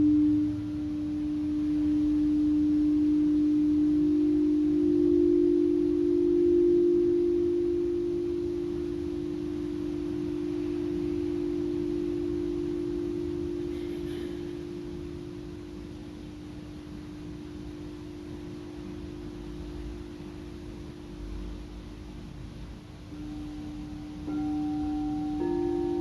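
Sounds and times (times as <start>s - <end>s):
singing bowl low tone: 0.0s - 26.0s.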